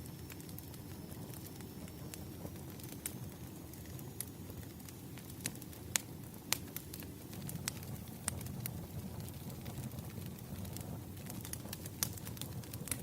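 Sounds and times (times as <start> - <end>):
fire pops and snaps: 0.0 - 13.0
wood fire crackling: 0.0 - 13.0.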